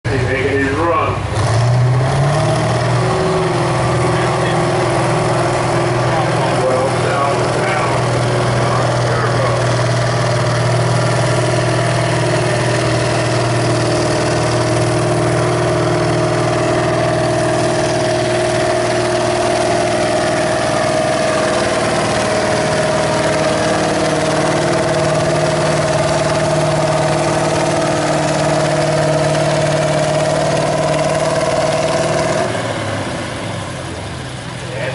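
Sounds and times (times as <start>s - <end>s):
diesel tractor engine running hard: 0.0s - 34.9s.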